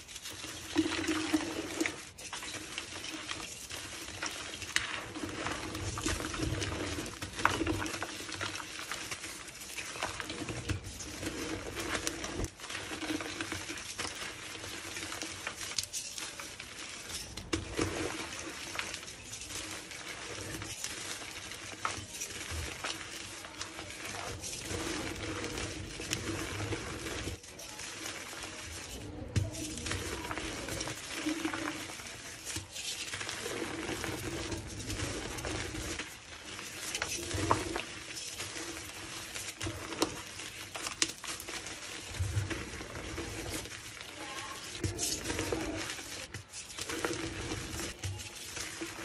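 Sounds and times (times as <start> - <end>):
hands crushing chalk: 0.0 - 49.0.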